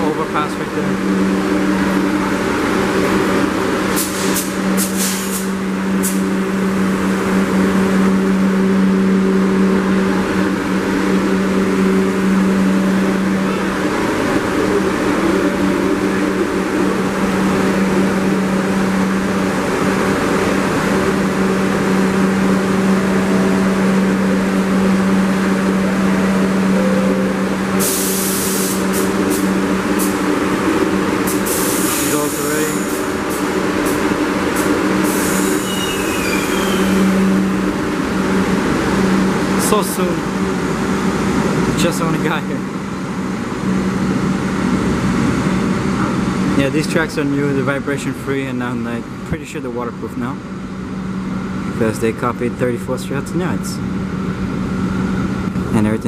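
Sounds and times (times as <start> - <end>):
train equipment low hum: 0.0 - 56.0.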